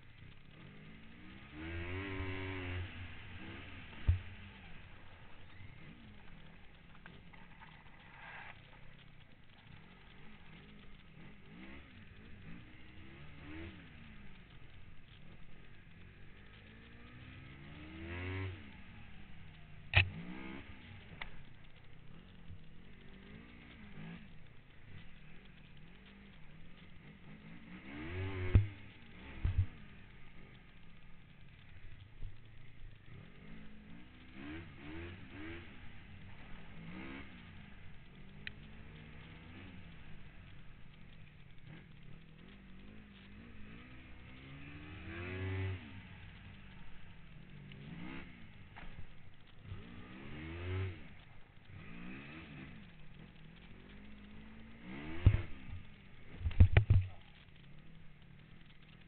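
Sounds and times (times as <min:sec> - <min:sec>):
snowmobile engine: 0:00.0 - 0:59.0.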